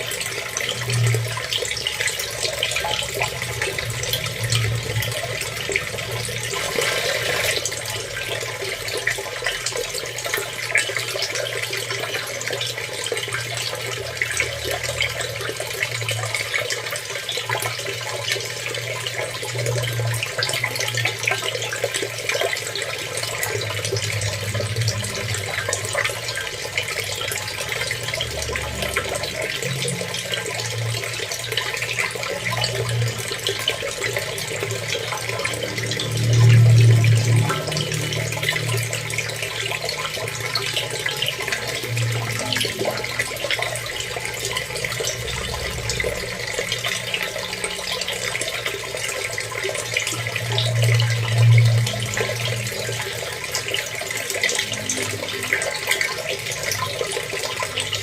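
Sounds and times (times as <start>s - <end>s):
running water splashing: 0.0s - 58.0s.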